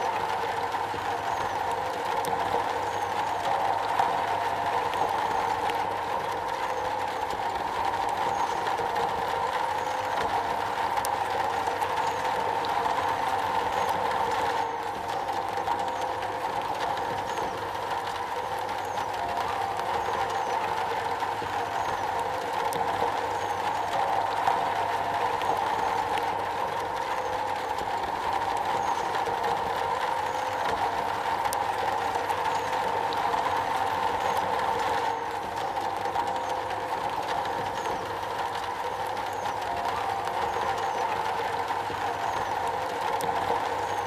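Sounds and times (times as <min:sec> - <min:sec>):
constant mid-pitched tone: 0:00.0 - 0:44.0
rain falling on metal: 0:00.0 - 0:44.0.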